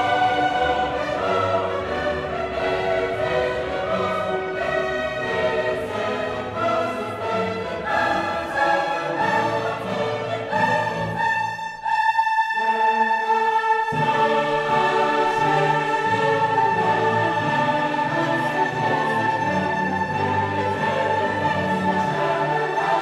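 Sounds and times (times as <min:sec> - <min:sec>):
choir singing long notes: 0:00.0 - 0:23.0
classical orchestral music: 0:00.0 - 0:23.0.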